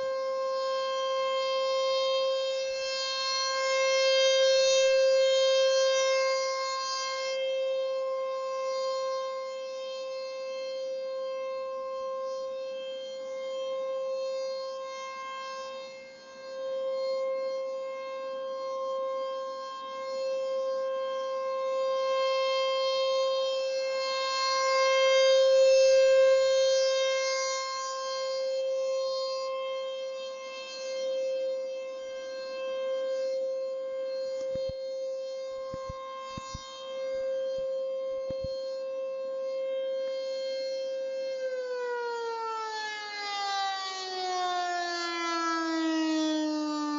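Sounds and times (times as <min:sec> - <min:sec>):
warning siren steady tone: 0:00.0 - 0:46.9.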